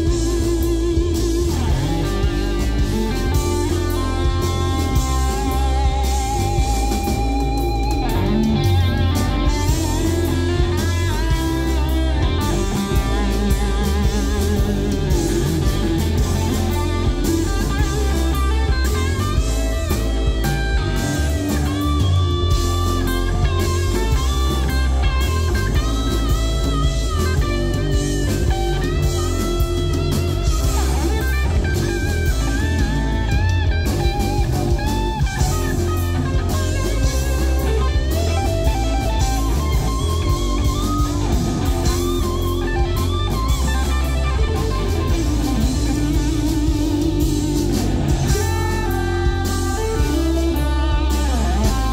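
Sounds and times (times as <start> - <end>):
bass and drums: 0.0 - 51.9
electric guitar lead: 0.0 - 51.9.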